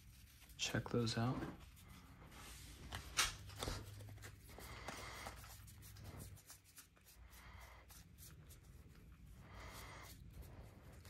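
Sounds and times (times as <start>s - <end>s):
cards sliding and rubbing: 0.0s - 11.0s.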